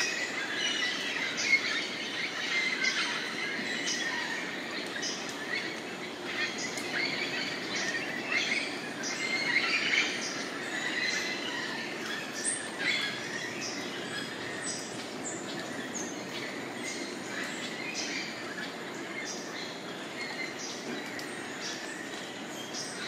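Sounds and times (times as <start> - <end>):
birds chirping and whistling: 0.0 - 23.0
steady background hiss: 0.0 - 23.0.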